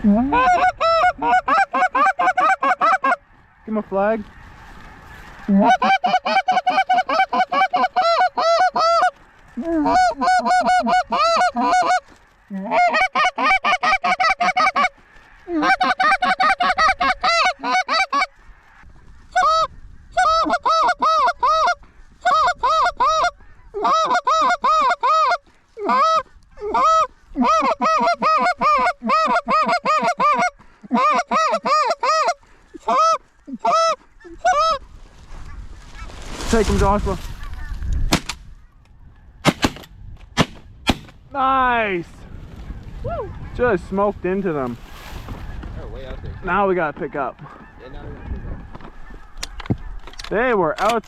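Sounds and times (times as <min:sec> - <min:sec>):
goose calls honking and clucking: 0:00.0 - 0:37.9, 0:45.4 - 0:51.0.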